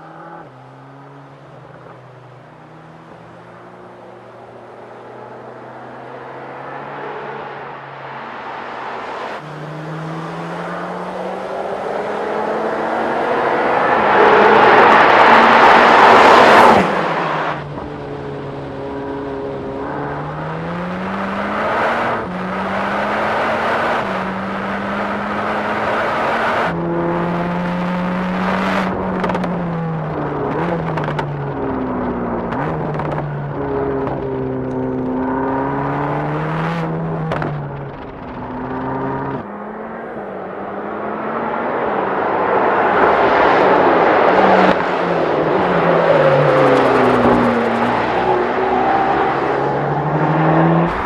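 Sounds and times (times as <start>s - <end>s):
car engine revving through gears: 4.5s - 51.0s.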